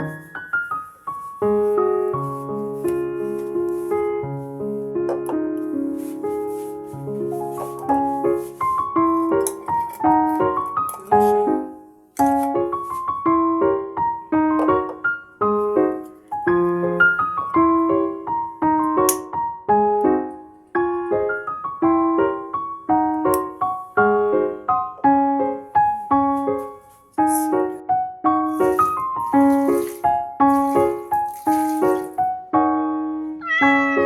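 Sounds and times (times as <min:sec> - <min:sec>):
solo piano melody: 0:00.0 - 0:34.0.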